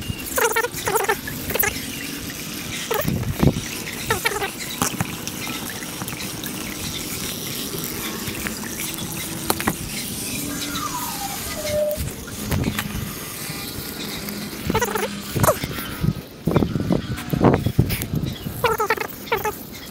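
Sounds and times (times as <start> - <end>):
water rushing through hose: 0.0 - 19.9.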